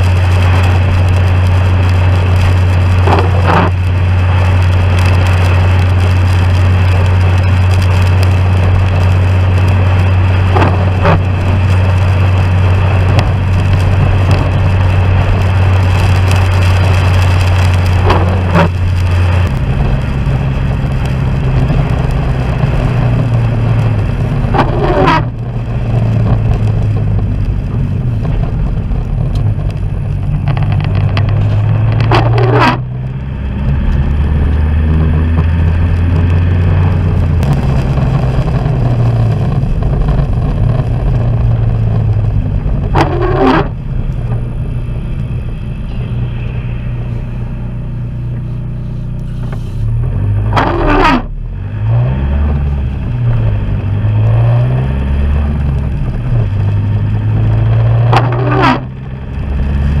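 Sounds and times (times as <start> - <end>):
vehicle engine running: 0.0 - 60.0
windscreen wipers sweeping: 0.0 - 60.0.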